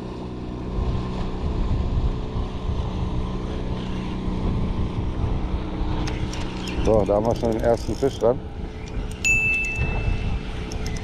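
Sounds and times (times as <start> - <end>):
outboard motor humming: 0.0 - 11.0
wind buffeting microphone: 0.2 - 11.0.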